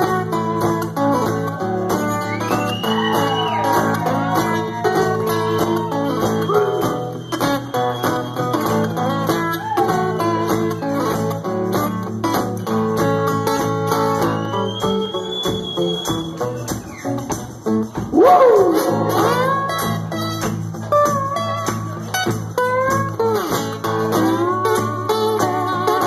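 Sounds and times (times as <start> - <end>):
bass line: 0.0 - 23.0
live bluesy guitar music: 0.0 - 26.0.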